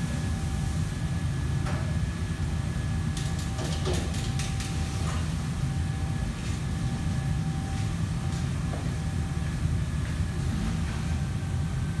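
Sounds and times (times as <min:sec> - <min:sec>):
faint constant whine: 0:00.0 - 0:12.0
low mechanical rumble: 0:00.0 - 0:12.0.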